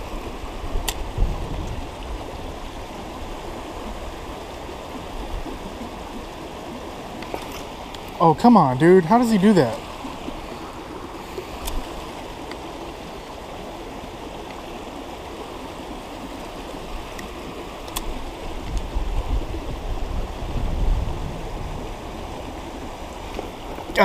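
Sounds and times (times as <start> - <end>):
creek water over rocks: 0.0 - 24.0.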